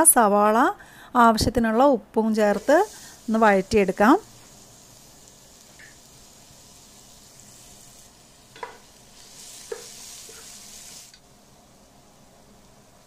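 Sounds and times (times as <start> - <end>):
onions sizzling in oil: 2.3 - 13.0.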